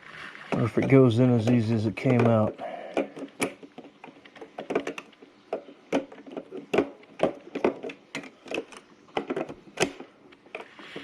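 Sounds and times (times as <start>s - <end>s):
hard plastic clicks and knocks: 0.5s - 11.0s.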